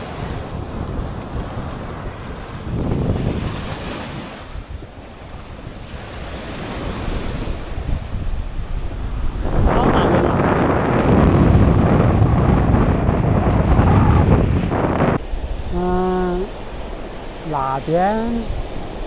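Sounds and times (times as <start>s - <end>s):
sea waves washing on beach: 0.0s - 19.0s
wind buffeting microphone: 0.0s - 19.0s.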